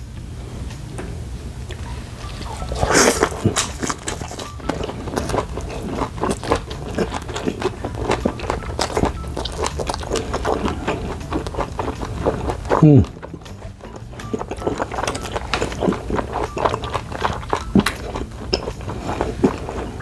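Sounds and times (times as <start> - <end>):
low hum: 0.0 - 20.0
wet chewing: 1.8 - 20.0
biting into steak: 2.2 - 20.0.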